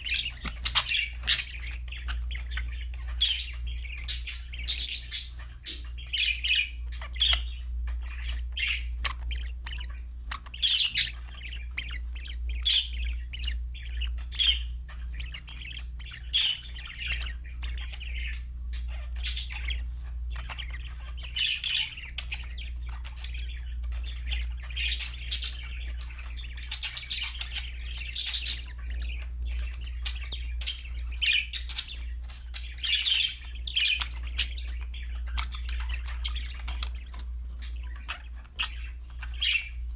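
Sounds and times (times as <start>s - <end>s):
budgerigars chirping and warbling: 0.0s - 39.9s
steady low hum: 0.0s - 39.9s.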